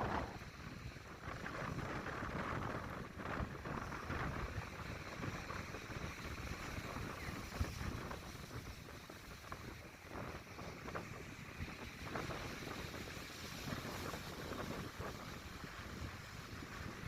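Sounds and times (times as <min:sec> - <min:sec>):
wind gusting across microphone: 0:00.0 - 0:17.0.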